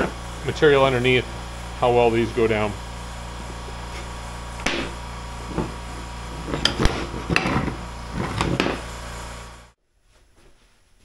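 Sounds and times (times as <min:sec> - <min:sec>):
steady background hum: 0:00.0 - 0:10.8.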